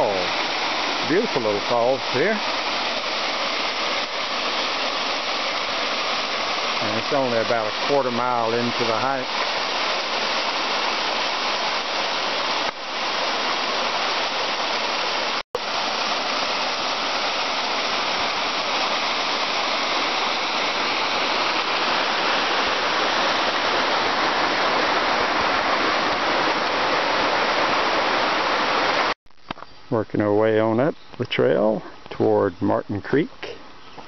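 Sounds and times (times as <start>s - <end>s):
waterfall rushing: 0.0s - 29.2s.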